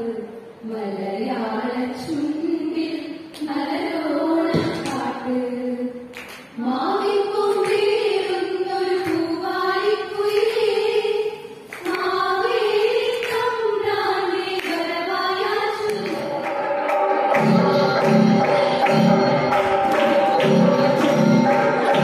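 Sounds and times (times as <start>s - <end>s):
women singing in unison: 0.0s - 22.0s.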